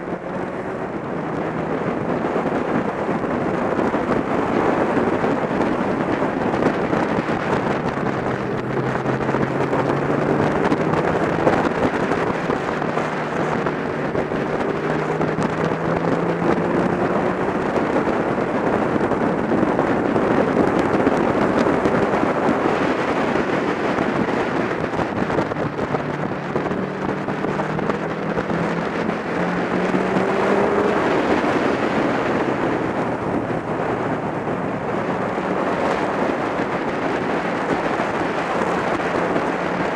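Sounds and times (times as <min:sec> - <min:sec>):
motorcycle engine accelerating: 0:00.0 - 0:39.9
wind buffeting microphone: 0:00.0 - 0:39.9.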